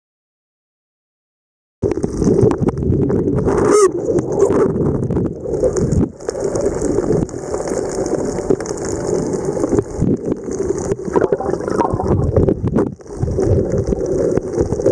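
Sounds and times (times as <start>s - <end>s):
muffled underwater water rushing: 1.8s - 14.9s.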